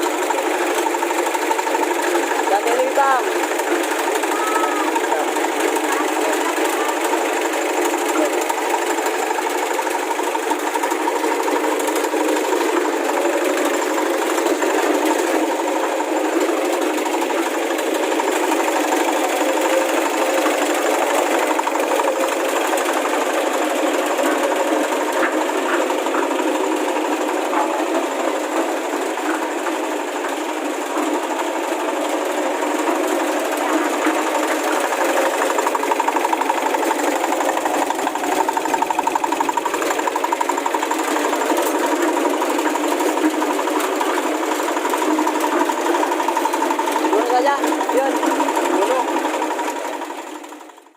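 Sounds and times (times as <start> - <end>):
cement mixer engine running: 0.0 - 50.9.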